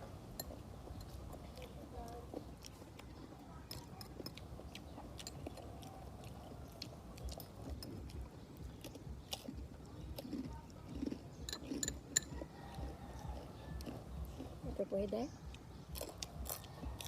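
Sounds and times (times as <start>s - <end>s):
close-miked chewing: 0.0s - 17.0s.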